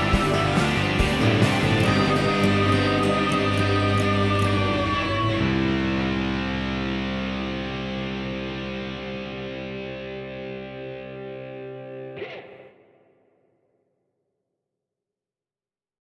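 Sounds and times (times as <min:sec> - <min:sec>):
electric guitar chord ringing: 0:00.0 - 0:13.2.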